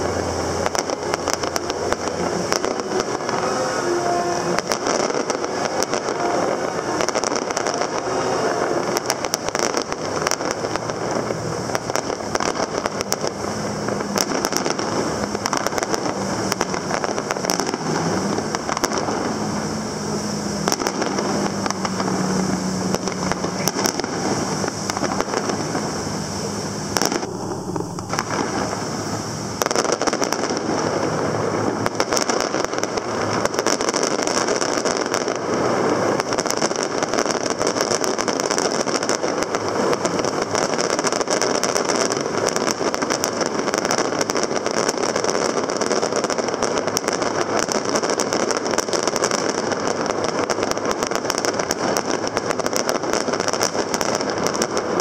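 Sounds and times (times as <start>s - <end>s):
low steady hum: 0.0s - 45.6s
fireworks bangs and crackling: 0.0s - 55.0s.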